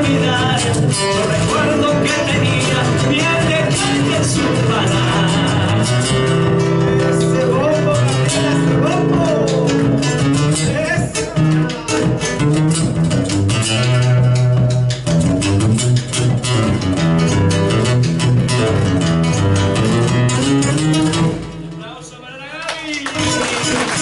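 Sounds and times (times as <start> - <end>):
bass drum beating: 0.0 - 21.7
bass: 0.0 - 24.0
guitar: 0.0 - 24.0.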